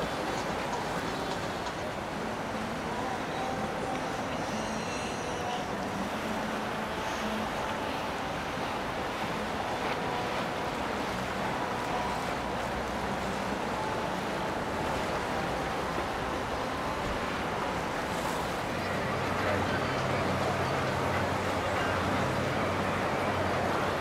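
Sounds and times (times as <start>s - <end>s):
faint boat engine hum: 0.0s - 24.0s
water rushing: 0.0s - 24.0s
wind: 0.0s - 24.0s.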